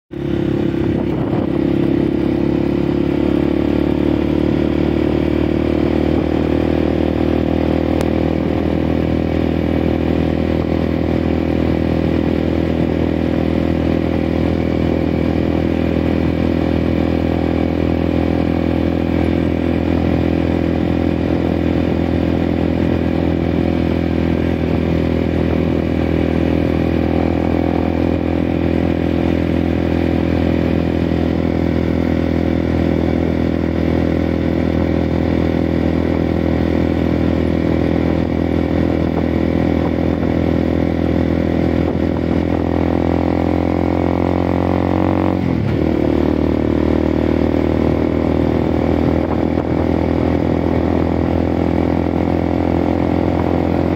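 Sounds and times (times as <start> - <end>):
motorcycle engine running: 0.1 - 53.9.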